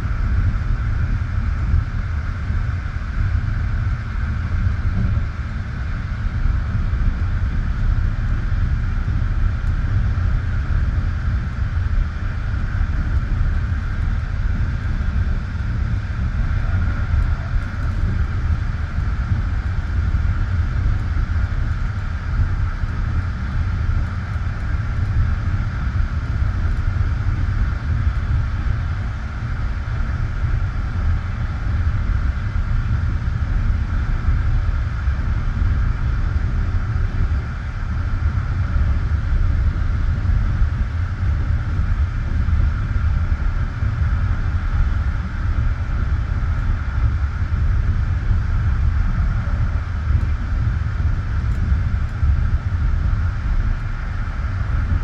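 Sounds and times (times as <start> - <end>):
high-pitched hum: 0.0 - 55.0.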